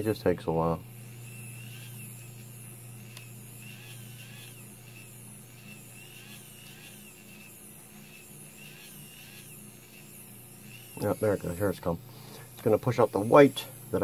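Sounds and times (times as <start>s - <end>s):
motor humming with whine: 0.0s - 14.0s.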